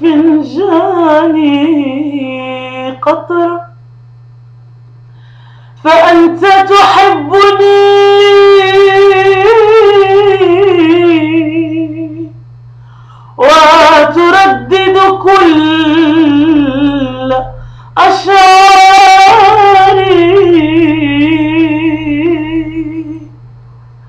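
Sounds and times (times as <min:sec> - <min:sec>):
woman singing with vibrato: 0:00.0 - 0:03.8, 0:05.7 - 0:12.4, 0:13.2 - 0:23.4
steady low hum: 0:00.0 - 0:24.0.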